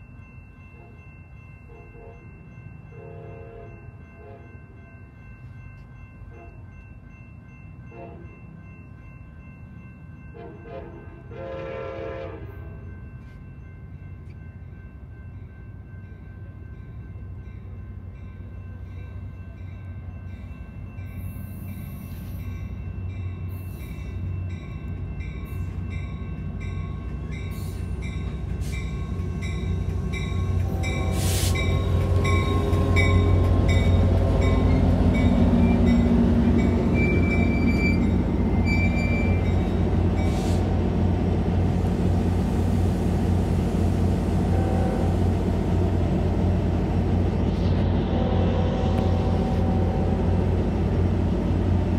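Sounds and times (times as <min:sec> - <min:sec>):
crossing bell dinging: 0:00.0 - 0:47.4
train rumbling: 0:00.0 - 0:51.9.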